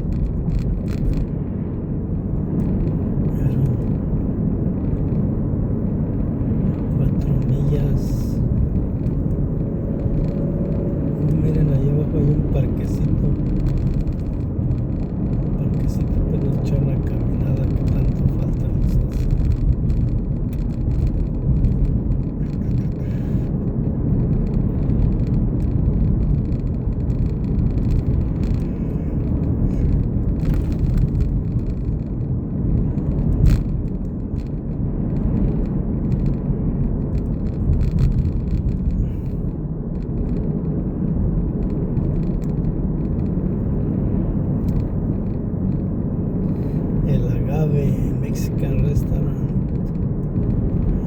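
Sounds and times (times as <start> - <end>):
car road and engine rumble: 0.0 - 51.0.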